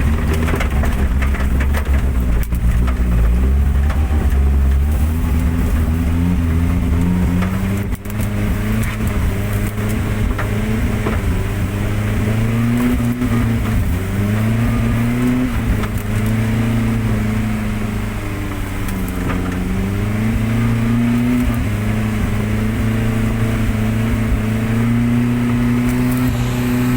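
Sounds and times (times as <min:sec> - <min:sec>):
vehicle engine revving under load: 0:00.0 - 0:26.9.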